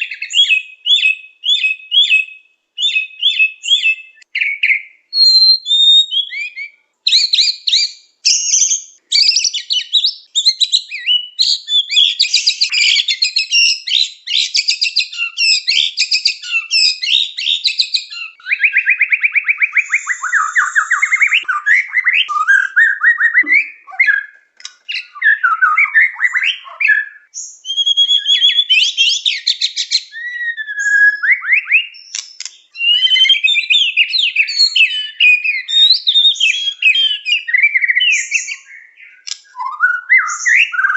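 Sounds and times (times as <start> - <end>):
bird singing whistled phrases: 0.0 - 40.9.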